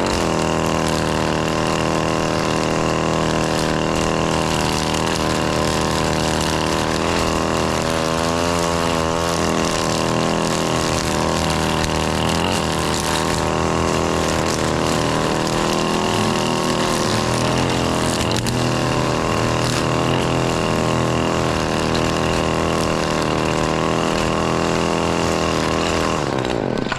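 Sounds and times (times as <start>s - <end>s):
string trimmer engine running: 0.0s - 26.9s.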